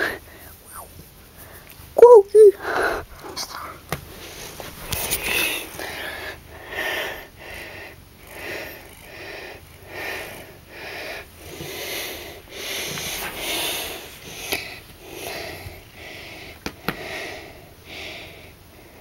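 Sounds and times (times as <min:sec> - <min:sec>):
close breathing: 0:00.0 - 0:01.9, 0:02.5 - 0:19.0.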